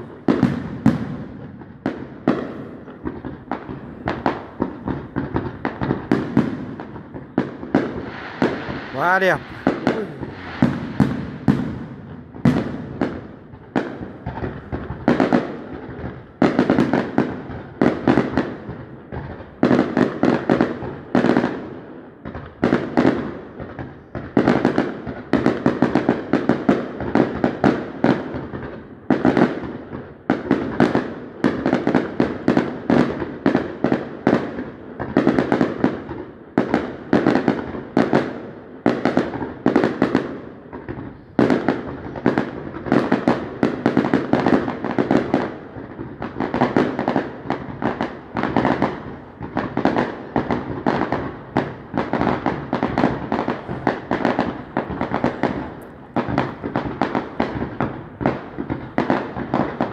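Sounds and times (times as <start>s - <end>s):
fireworks bangs and pops: 0.0s - 59.9s.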